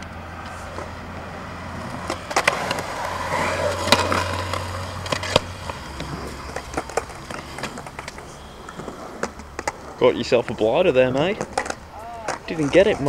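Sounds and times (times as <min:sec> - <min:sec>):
skateboard wheels rolling: 0:00.0 - 0:13.0
skateboard clacks: 0:00.4 - 0:13.0.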